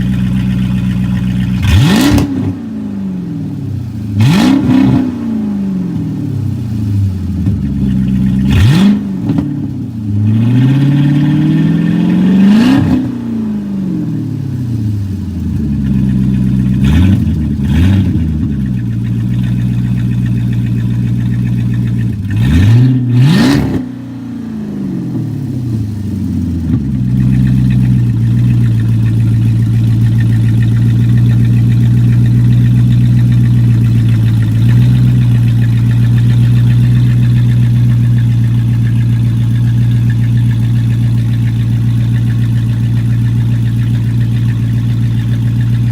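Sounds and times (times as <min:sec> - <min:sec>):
car engine idling: 0:00.0 - 0:45.9
car engine revving: 0:00.0 - 0:45.9.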